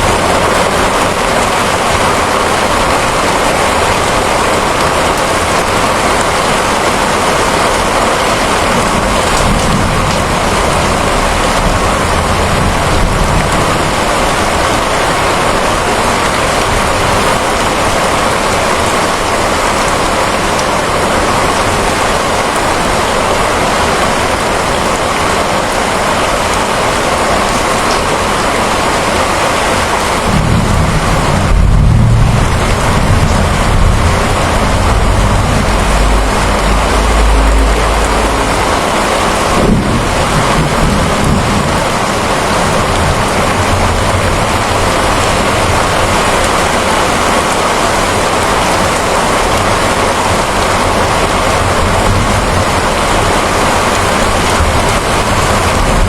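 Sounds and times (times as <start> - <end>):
heavy rain hissing: 0.0 - 56.0
thunder rumbling: 0.0 - 56.0.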